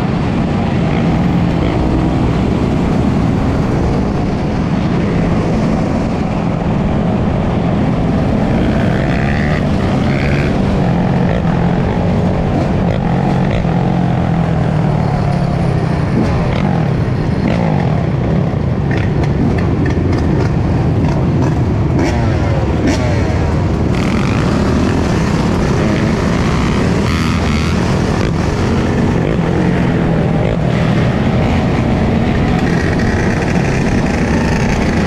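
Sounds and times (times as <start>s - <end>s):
dirt bike engines running: 0.0s - 35.0s.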